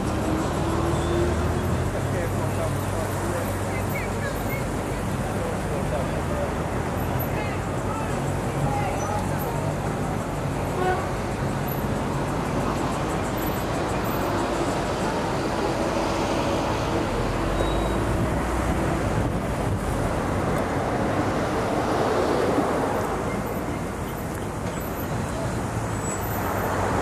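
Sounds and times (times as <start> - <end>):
street traffic rushing past: 0.0 - 27.0.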